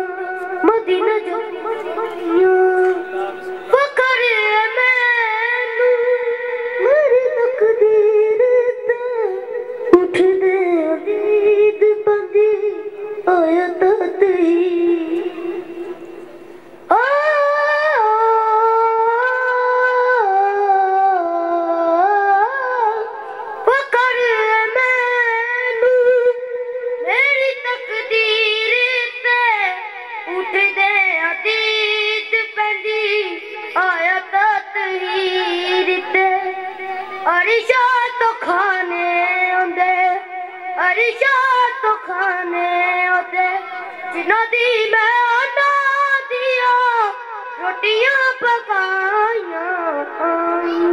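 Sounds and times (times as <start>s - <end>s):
boy chanting into a microphone: 0.0s - 50.9s.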